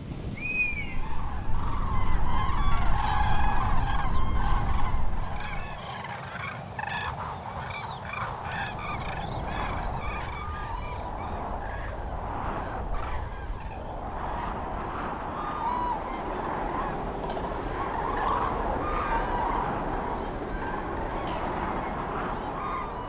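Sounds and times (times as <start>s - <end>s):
flock of birds calling: 0.3s - 23.0s.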